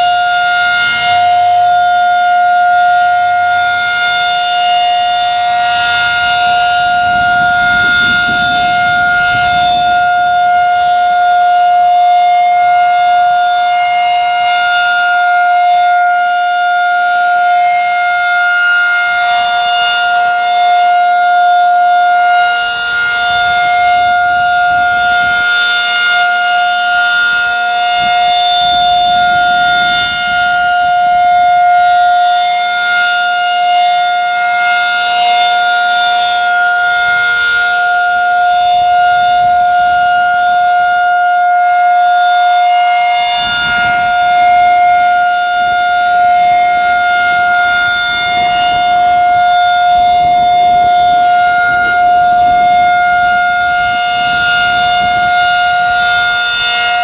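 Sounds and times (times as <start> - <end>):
electronic siren steady tone: 0.0 - 57.0.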